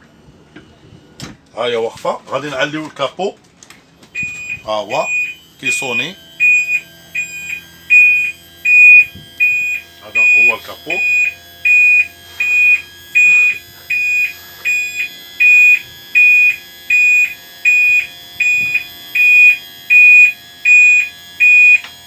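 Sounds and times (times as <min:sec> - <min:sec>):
high-pitched warning buzzer beeping: 0:04.2 - 0:22.0.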